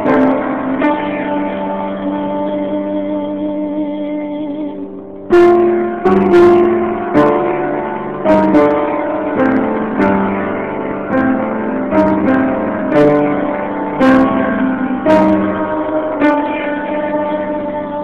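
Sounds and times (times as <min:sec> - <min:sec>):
piano playing chords: 0:00.0 - 0:18.0.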